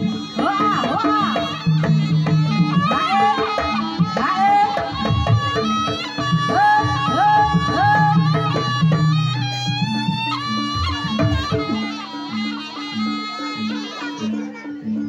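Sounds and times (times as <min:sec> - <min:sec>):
drums: 0:00.0 - 0:12.1
high sliding melody: 0:00.0 - 0:15.0.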